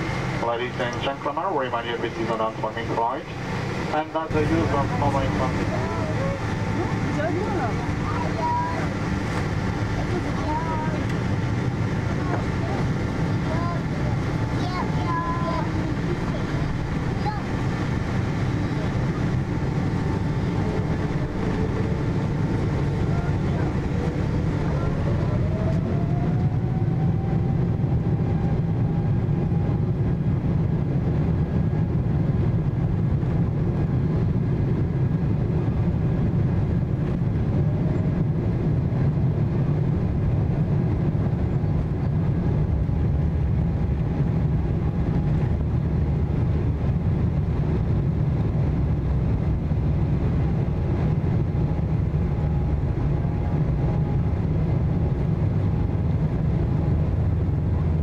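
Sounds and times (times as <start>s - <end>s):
aircraft cabin low rumble: 0.0s - 58.0s
faint engine whine: 0.0s - 58.0s.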